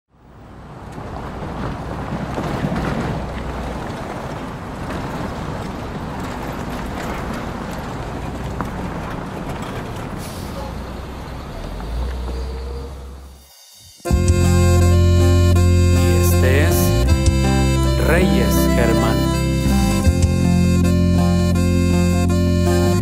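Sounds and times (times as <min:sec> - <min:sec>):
street traffic noise: 0:00.1 - 0:23.0.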